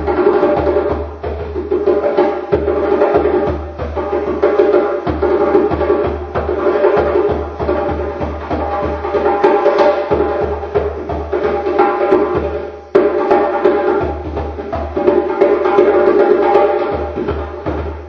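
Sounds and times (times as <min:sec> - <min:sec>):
hand drum rhythm: 0:00.0 - 0:18.0.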